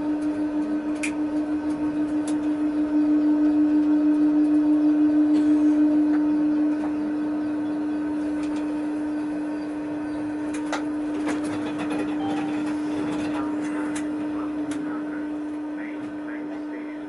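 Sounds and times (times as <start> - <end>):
electrical hum in tram cab: 0.0 - 17.0.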